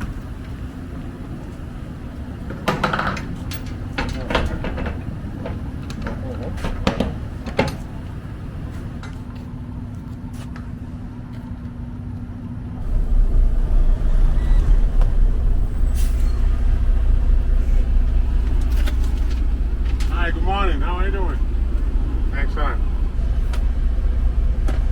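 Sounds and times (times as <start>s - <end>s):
truck engine rumbling: 0.0s - 9.2s, 12.8s - 24.9s.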